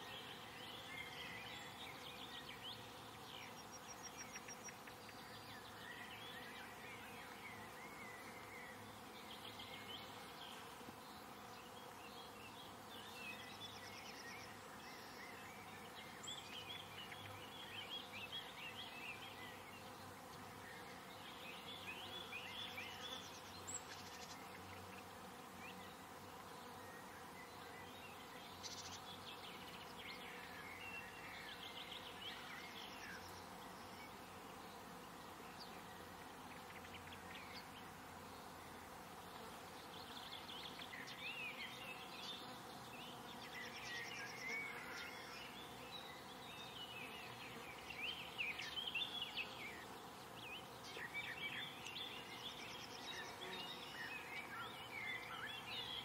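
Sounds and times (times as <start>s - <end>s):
faint birdsong: 0.0s - 56.0s.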